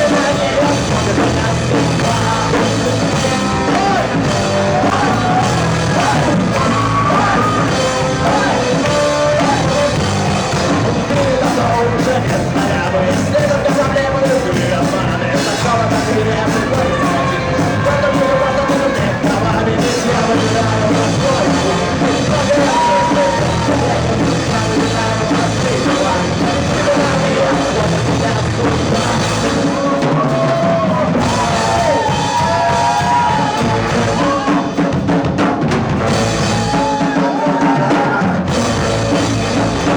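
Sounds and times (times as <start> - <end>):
person singing: 0.0 - 35.4, 36.3 - 39.9
live rock band playing: 0.0 - 39.9.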